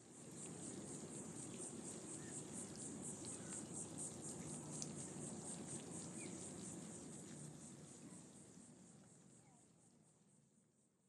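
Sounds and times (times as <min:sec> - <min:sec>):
insects chirring: 0:00.1 - 0:09.6.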